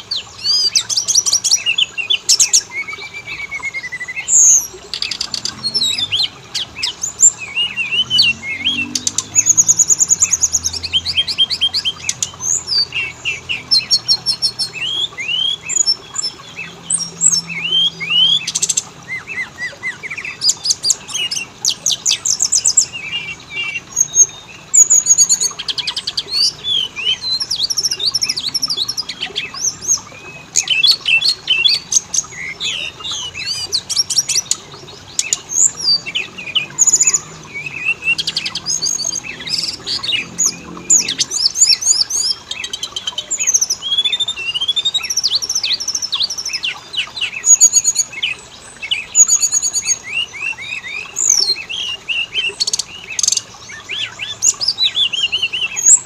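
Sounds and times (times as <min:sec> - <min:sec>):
magpie-robin singing: 0:00.0 - 0:56.0.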